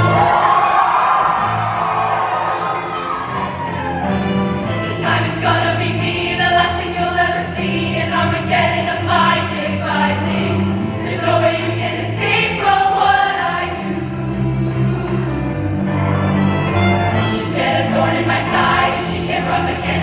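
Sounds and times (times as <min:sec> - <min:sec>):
low instrumental accompaniment: 0:00.0 - 0:20.0
women's choir singing: 0:04.0 - 0:20.0.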